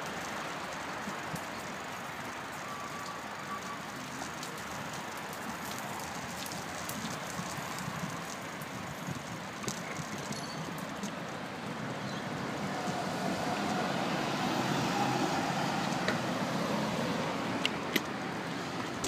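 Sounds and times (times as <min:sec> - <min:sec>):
bicycle tyres rolling on paving: 0:00.0 - 0:19.0.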